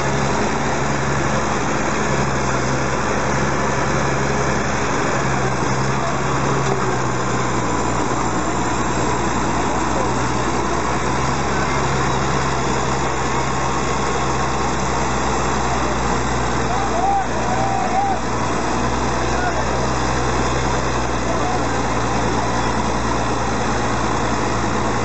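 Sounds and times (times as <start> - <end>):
tractor diesel engines under load: 0.0 - 25.0.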